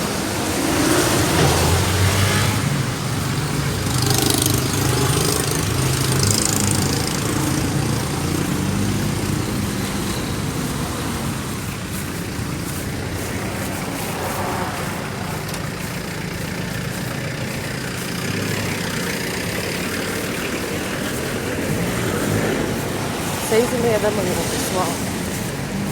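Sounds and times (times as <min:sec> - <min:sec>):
engine idling: 0:00.0 - 0:25.9
road noise: 0:00.0 - 0:25.9.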